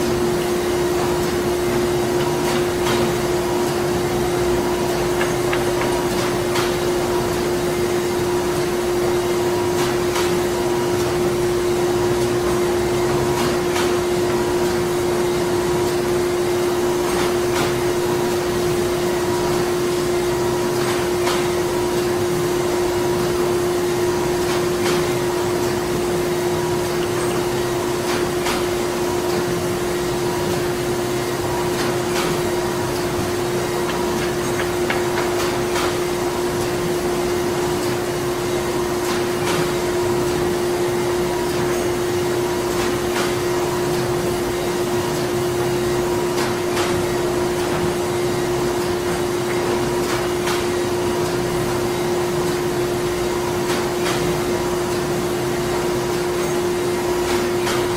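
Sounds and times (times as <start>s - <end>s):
factory machinery humming: 0.0s - 57.9s.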